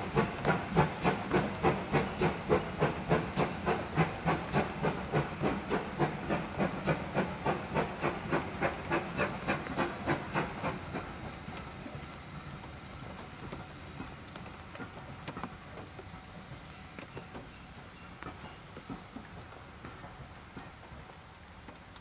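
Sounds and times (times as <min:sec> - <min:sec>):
steam locomotive chuffing: 0:00.0 - 0:21.2
hiss of steam: 0:00.0 - 0:22.0.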